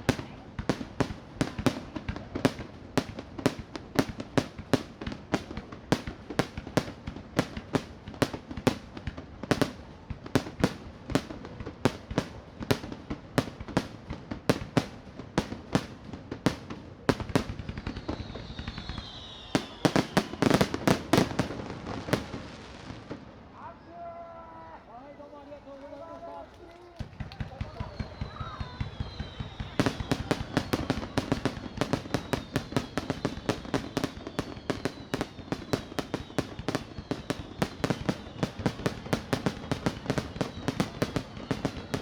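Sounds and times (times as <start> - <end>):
fireworks falling whistles: 0.0 - 23.2, 27.1 - 42.0
fireworks bangs: 0.0 - 42.0.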